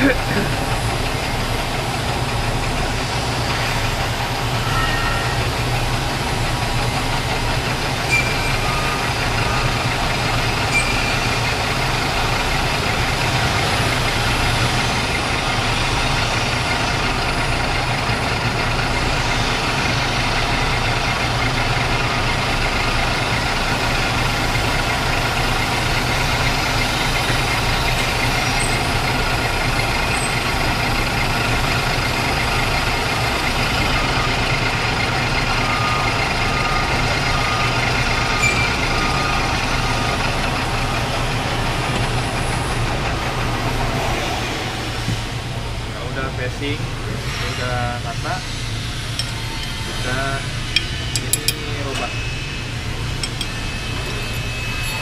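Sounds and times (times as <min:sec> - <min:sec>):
metal lathe cutting pipe: 0:00.0 - 0:55.0.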